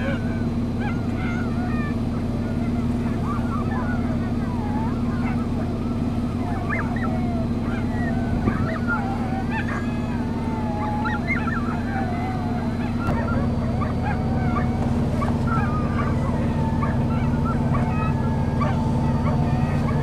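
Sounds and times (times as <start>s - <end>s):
dogs whining and yelping: 0.0s - 20.0s
low engine hum: 0.0s - 20.0s.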